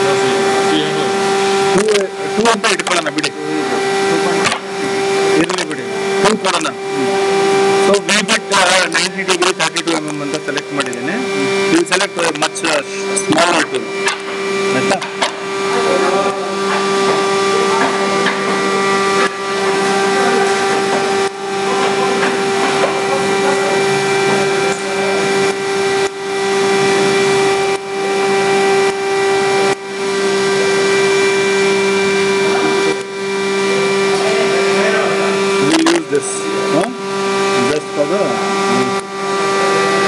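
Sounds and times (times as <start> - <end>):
machine motor hum and whine: 0.0 - 40.0.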